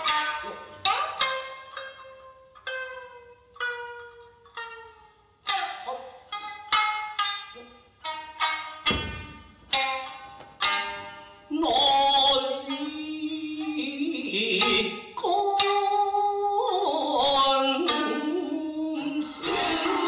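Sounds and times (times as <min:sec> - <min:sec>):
plucked string instrument: 0:00.0 - 0:20.0.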